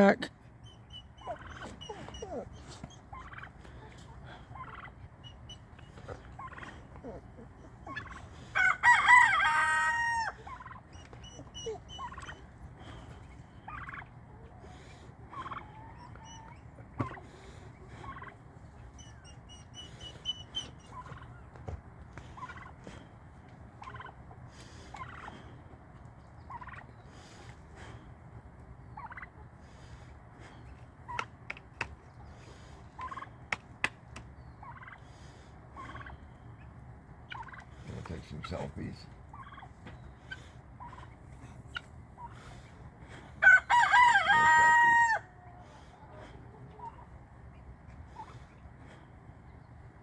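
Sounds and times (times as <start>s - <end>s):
turkey gobbling: 0.0s - 50.0s.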